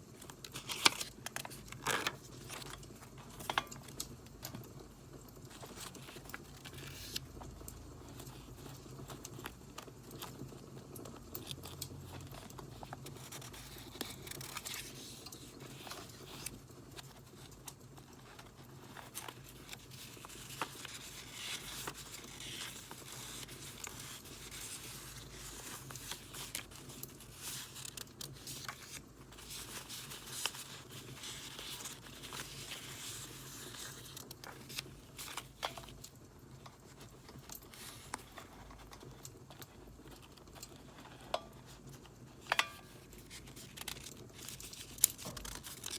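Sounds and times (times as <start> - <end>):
paper crinkling and tearing: 0.0 - 4.0, 5.4 - 45.9.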